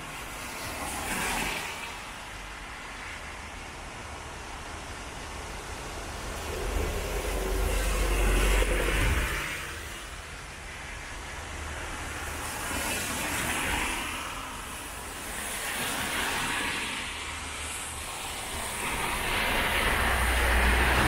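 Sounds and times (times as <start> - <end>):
tyres hissing on wet road: 0.0 - 21.0
vehicles swishing on wet tarmac: 0.0 - 21.0.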